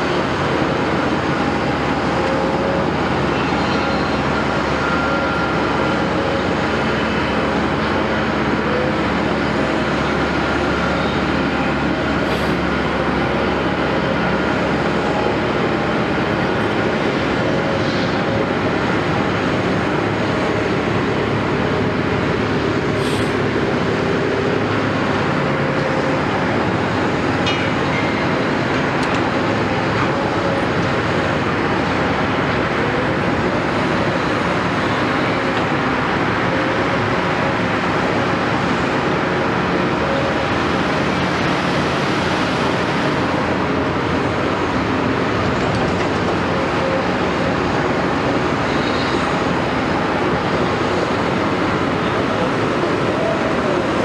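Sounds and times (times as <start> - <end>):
excavator engine and hydraulic drone: 0.0 - 54.0
steady hydraulic whine: 0.0 - 54.0.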